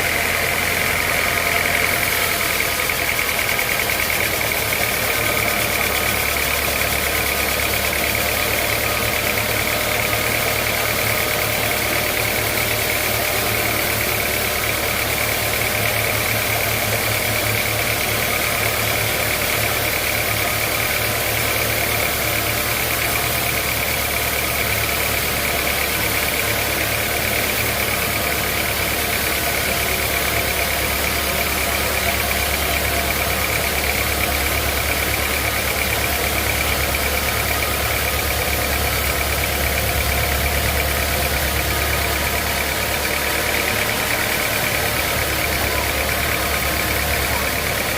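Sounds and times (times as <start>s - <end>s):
low engine drone: 0.0s - 47.9s.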